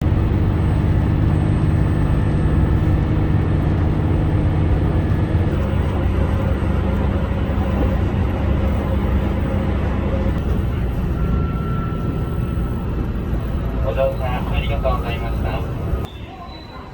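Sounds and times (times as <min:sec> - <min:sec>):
diesel railcar engine drone: 0:00.0 - 0:16.9.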